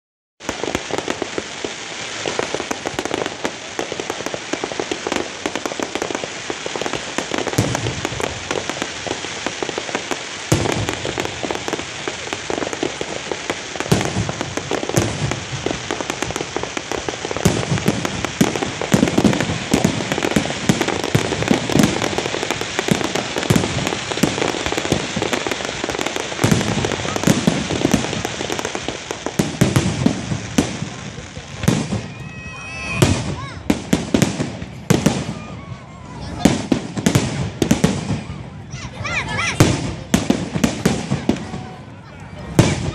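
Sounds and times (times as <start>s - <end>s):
deep fireworks bangs: 0.4s - 42.9s
fireworks crackling pops: 0.4s - 42.9s.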